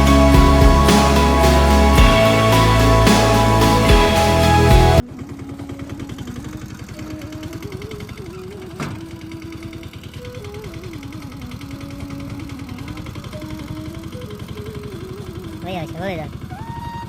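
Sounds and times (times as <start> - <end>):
tractor diesel engine chugging: 0.0 - 16.9.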